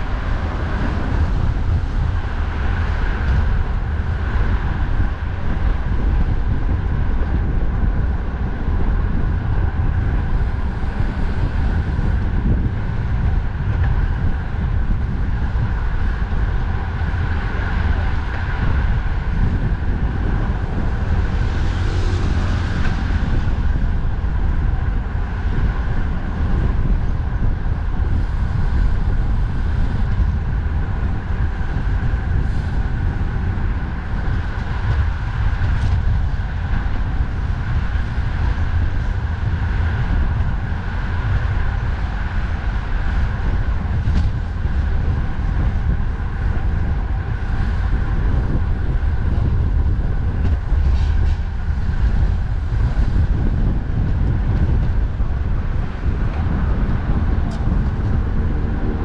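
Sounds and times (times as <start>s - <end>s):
road traffic: 0.0s - 59.0s
wind buffeting microphone: 0.0s - 59.0s.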